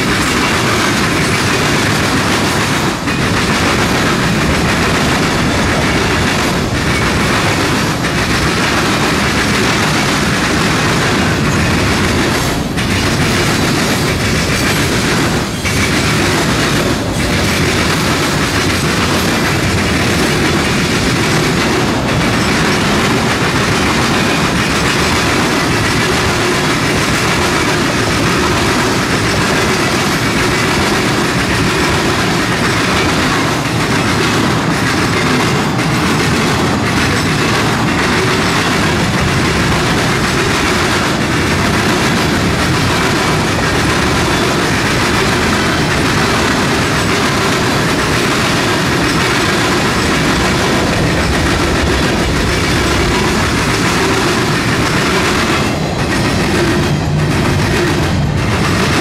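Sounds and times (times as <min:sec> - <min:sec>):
sharp rail clicks: 0:00.0 - 0:59.0
steel train wheels rumbling on rails: 0:00.0 - 0:59.0.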